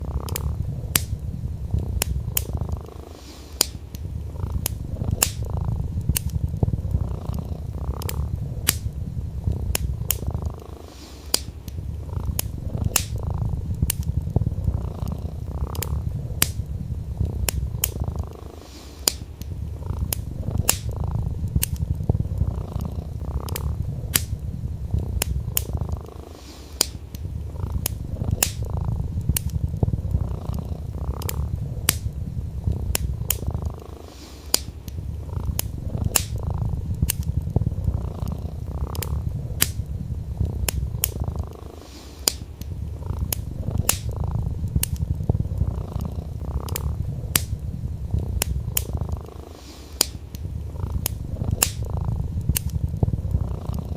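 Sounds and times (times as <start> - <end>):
cat purring: 0.0 - 53.9
wood fire crackling: 0.0 - 53.9.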